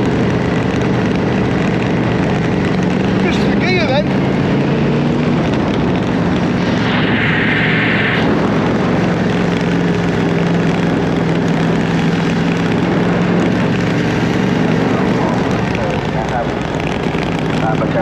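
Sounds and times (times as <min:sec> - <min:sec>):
motorcycle engine running: 0:00.0 - 0:18.0
wind rush on microphone: 0:00.0 - 0:18.0.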